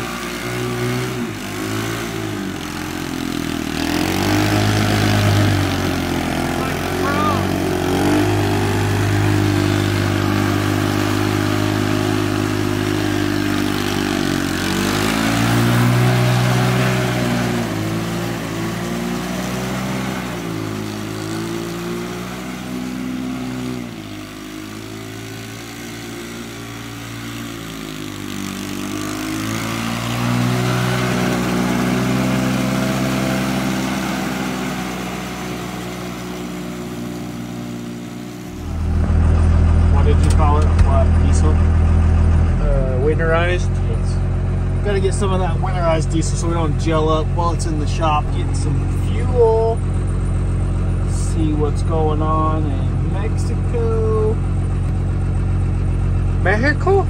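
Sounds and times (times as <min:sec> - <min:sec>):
small vehicle engine revving: 0:00.0 - 0:57.0.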